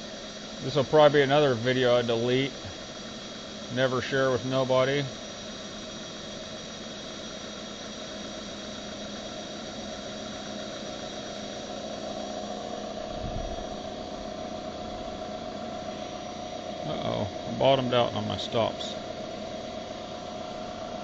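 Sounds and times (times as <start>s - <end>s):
mill spindle whining: 0.0s - 21.0s.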